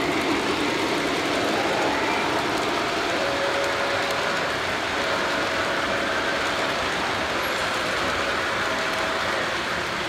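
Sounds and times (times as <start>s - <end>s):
model train wheels rumbling: 0.0s - 10.0s.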